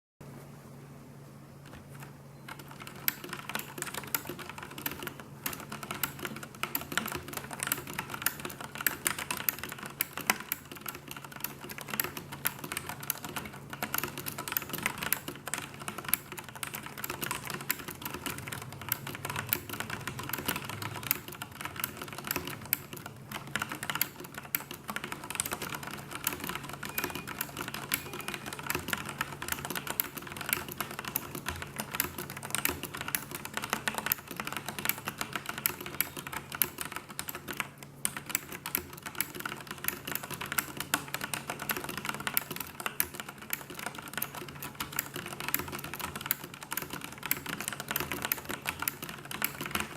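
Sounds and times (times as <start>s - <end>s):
fast typing on mechanical keyboard: 1.7s - 49.9s.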